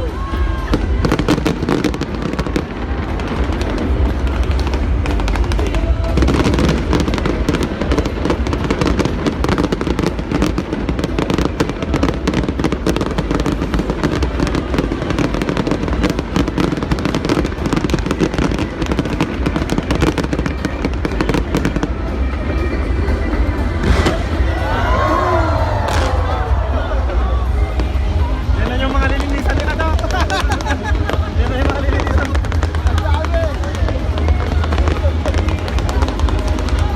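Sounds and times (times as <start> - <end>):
fireworks bangs and crackles: 0.0 - 36.9.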